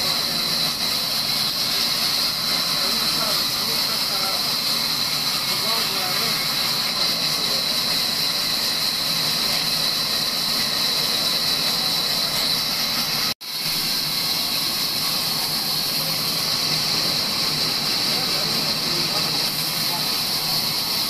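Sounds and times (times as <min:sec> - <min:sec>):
band saw running: 0:00.0 - 0:21.0.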